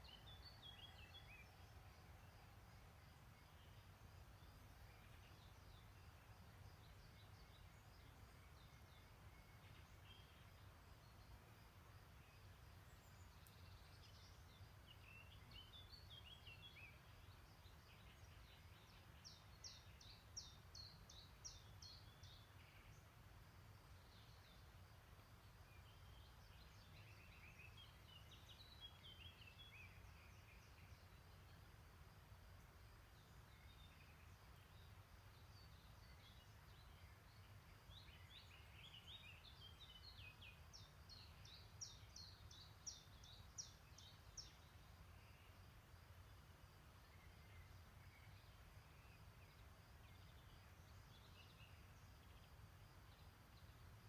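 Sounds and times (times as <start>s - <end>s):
faint songbirds singing: 0.0s - 54.0s.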